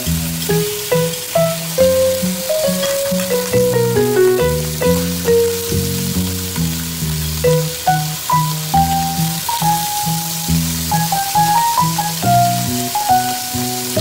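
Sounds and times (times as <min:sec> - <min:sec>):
background music: 0:00.0 - 0:14.0
meat sizzling in oil: 0:00.0 - 0:14.0.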